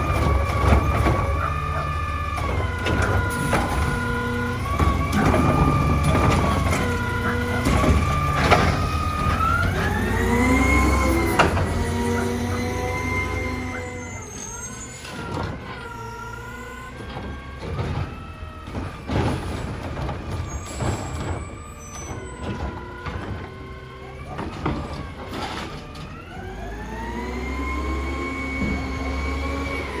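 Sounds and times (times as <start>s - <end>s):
sharp bangs and clanks: 0.0s - 25.9s
garbage truck hydraulics whining: 0.0s - 30.0s.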